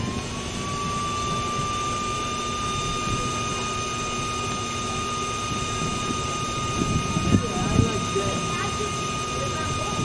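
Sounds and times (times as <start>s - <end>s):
induction heater whine: 0.0s - 10.0s
low fan-like rumble: 0.0s - 10.0s.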